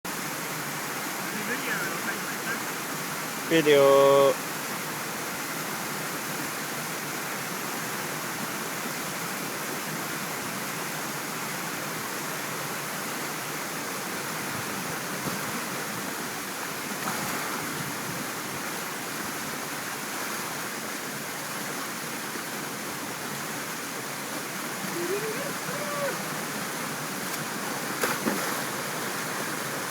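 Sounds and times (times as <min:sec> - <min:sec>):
waterfall rushing: 0:00.1 - 0:17.0, 0:17.9 - 0:29.9.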